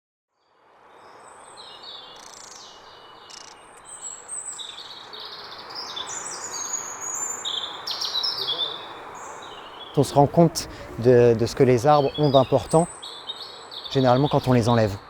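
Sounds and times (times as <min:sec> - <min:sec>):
steady background hiss: 0:00.5 - 0:15.0
birds chirping and trilling: 0:01.0 - 0:15.0.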